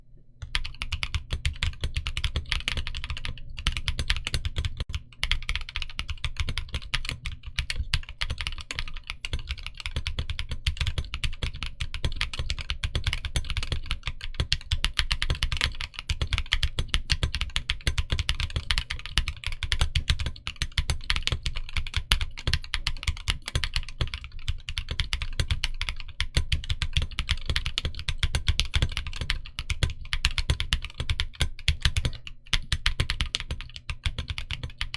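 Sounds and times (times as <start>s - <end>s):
fast mechanical keyboard typing: 0.4s - 34.9s.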